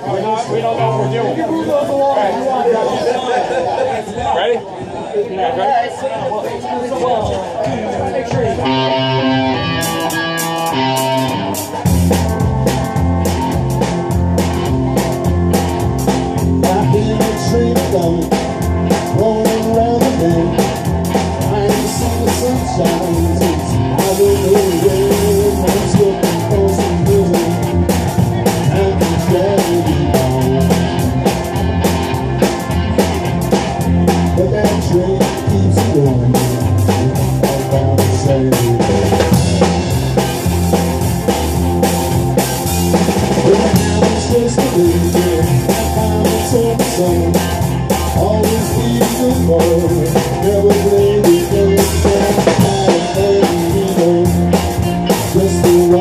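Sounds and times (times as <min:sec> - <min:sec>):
bass guitar: 0:00.0 - 0:03.2, 0:07.7 - 0:56.0
drum kit beat: 0:08.3 - 0:56.0
electric guitar: 0:08.4 - 0:56.0.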